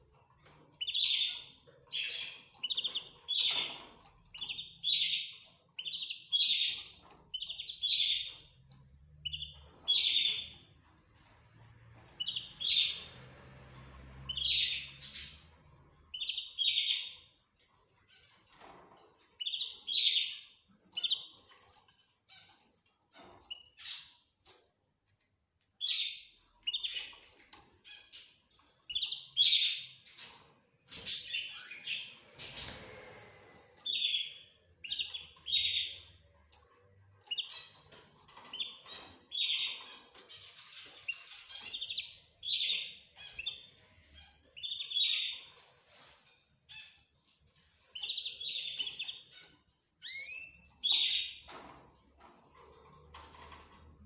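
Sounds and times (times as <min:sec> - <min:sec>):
cage birds chirping: 0:00.0 - 0:54.0.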